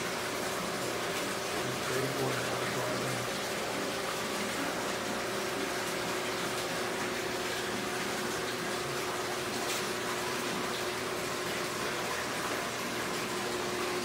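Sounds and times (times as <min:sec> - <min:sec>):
bubbling water rushing: 0:00.0 - 0:14.0
faint pump hum: 0:00.0 - 0:14.0.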